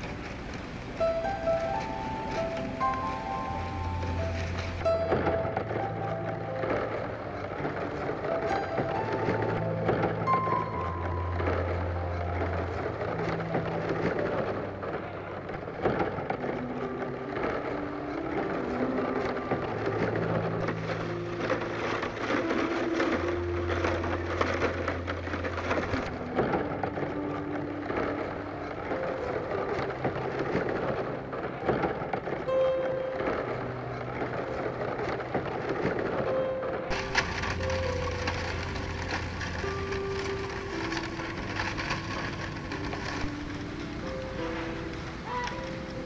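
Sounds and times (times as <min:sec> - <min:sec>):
bamboo strips crackling and clicking: 0:00.0 - 0:46.0
slow background music: 0:00.0 - 0:46.0.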